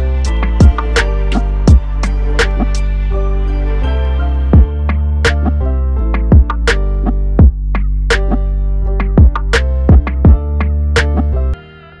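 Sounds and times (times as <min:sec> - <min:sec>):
electronic music with drum beat: 0:00.0 - 0:03.1, 0:04.5 - 0:11.5.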